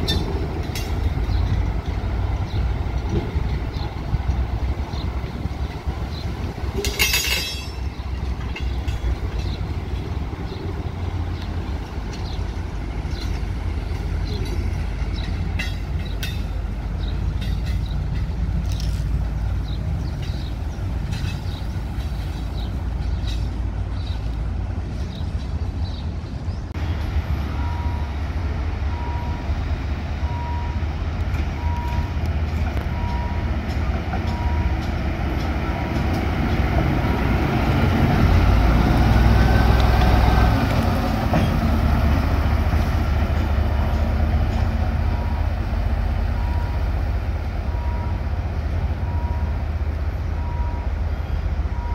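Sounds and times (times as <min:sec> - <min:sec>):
diesel locomotive engine rumble: 0:00.0 - 0:51.9.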